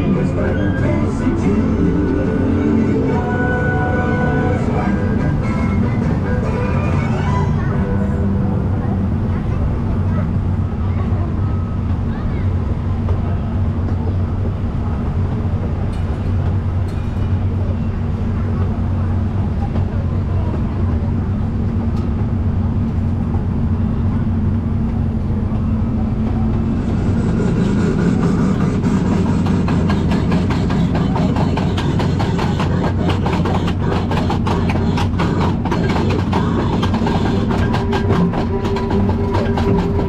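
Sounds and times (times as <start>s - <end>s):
train cars rumbling on track: 0.0s - 40.0s
wheels and couplings rattling: 0.0s - 40.0s.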